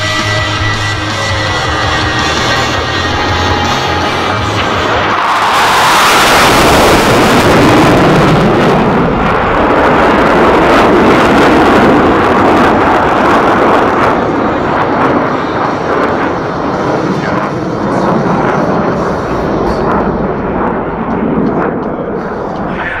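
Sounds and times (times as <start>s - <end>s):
jet engines roaring past: 0.0s - 23.0s.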